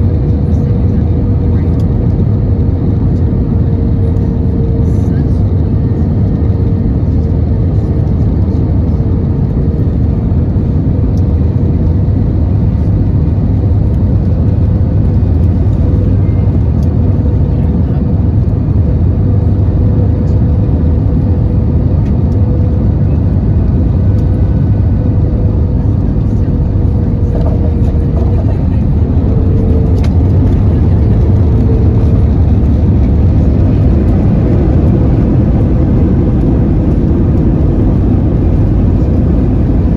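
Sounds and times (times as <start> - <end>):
airplane cabin engine rumble: 0.0 - 39.9
constant thin hum: 0.0 - 39.9.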